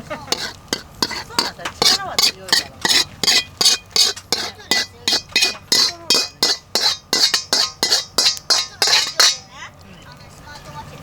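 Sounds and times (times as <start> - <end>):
metal utensil scraping cookware: 0.0 - 9.5.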